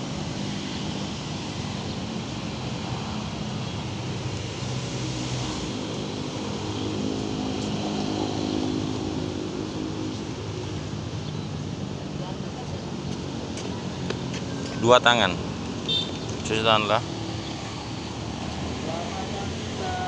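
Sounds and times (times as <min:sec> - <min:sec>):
motor scooters running and idling: 0:00.0 - 0:20.0.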